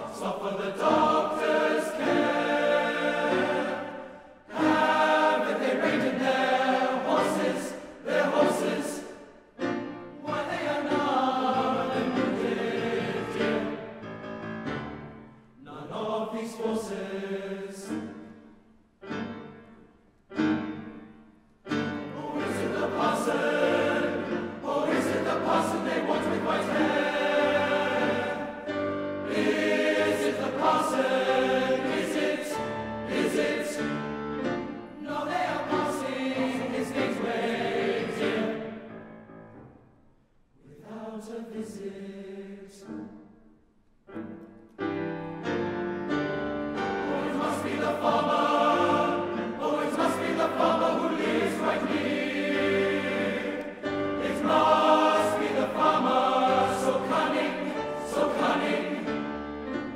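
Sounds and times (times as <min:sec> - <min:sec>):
male choir singing in harmony: 0:00.0 - 0:14.1, 0:15.6 - 0:18.5, 0:21.7 - 0:39.0, 0:40.6 - 0:43.2, 0:46.3 - 0:59.9.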